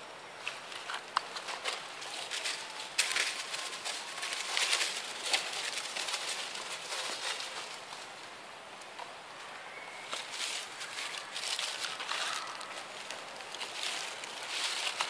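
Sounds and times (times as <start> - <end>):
dry leaves rustling: 0.3 - 15.0.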